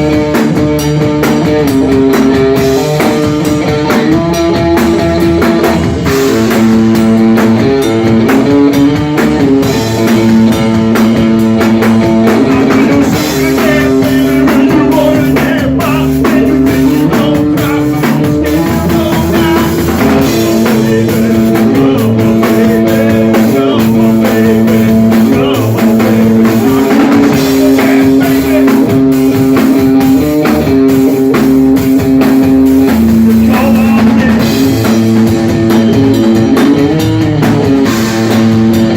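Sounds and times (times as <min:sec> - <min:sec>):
bass guitar: 0:00.0 - 0:38.9
drum kit: 0:00.0 - 0:38.9.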